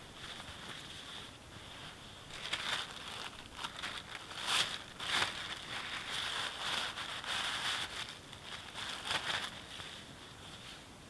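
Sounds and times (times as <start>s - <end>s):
fabric sack rustling and crinkling: 0.0s - 10.9s.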